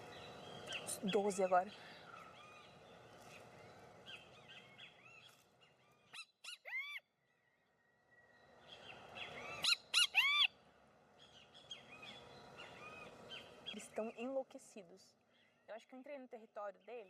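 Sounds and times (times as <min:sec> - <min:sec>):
birds high-pitched calls: 0:00.0 - 0:14.4.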